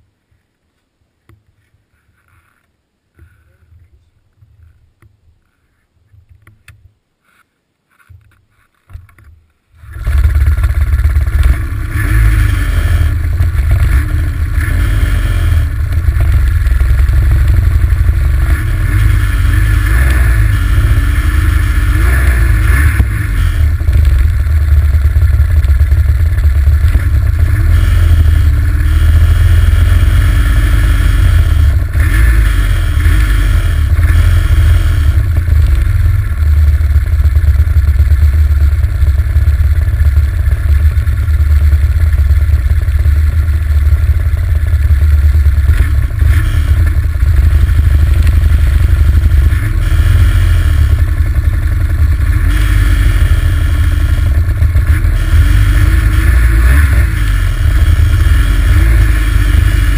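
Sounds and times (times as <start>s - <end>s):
snowmobile engine running: 9.8s - 59.9s.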